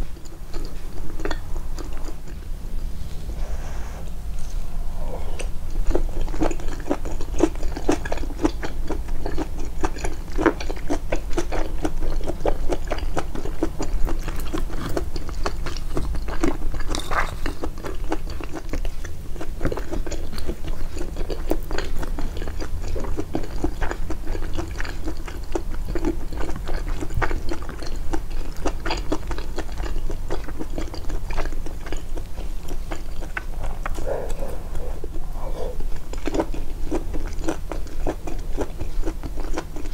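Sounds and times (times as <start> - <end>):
amplified wet chewing: 0.0 - 39.9
food crunches: 5.9 - 39.9.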